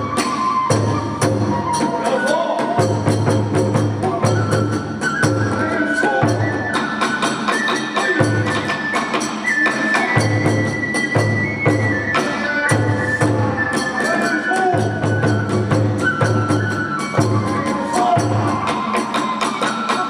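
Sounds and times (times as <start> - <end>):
bamboo flute long notes: 0.0 - 20.0.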